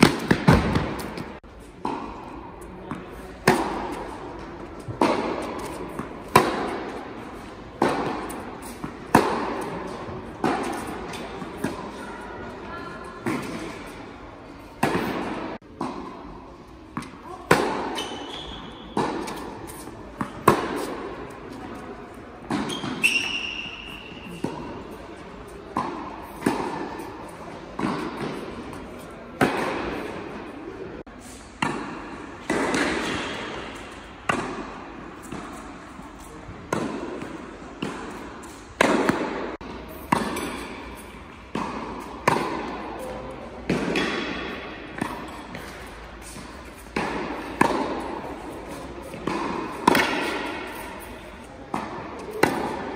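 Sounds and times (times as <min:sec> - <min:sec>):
tennis balls bouncing on court: 0:00.0 - 0:52.9
tennis balls hit by rackets: 0:00.0 - 0:52.9.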